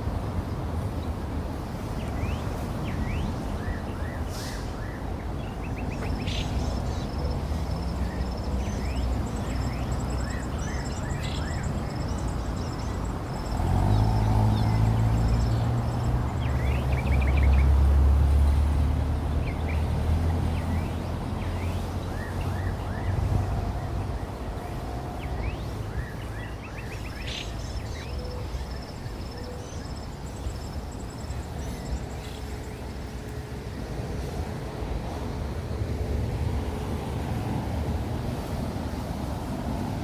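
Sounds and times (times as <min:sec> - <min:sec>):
traffic engine rumble: 0:00.0 - 0:40.0.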